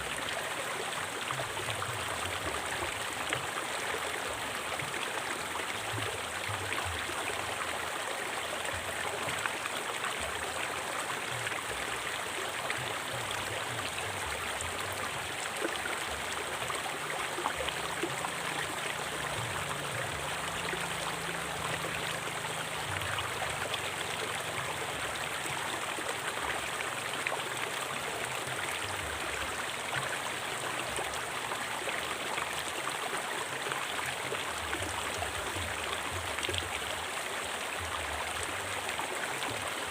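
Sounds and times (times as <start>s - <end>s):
river flowing over rocks: 0.0s - 39.9s
water splashing and trickling: 0.0s - 39.9s.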